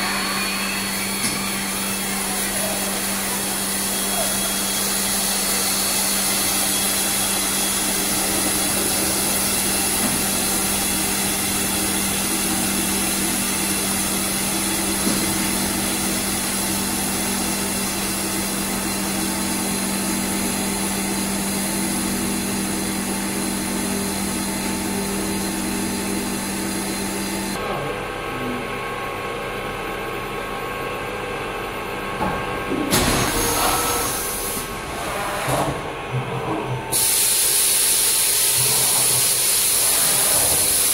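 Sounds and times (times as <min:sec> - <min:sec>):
hydraulic press machine hum: 0:00.0 - 0:40.9.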